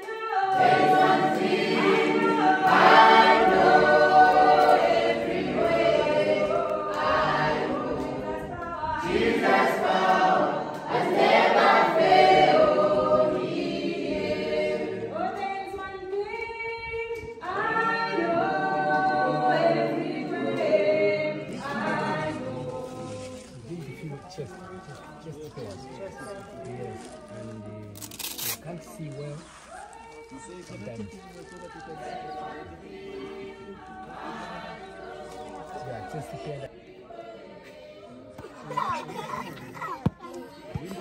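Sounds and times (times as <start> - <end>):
choir singing a cappella: 0.0 - 27.9, 28.8 - 41.0.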